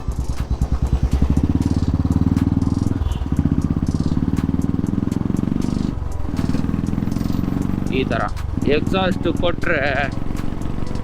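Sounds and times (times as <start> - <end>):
motorcycle engine thumping: 0.0 - 11.0.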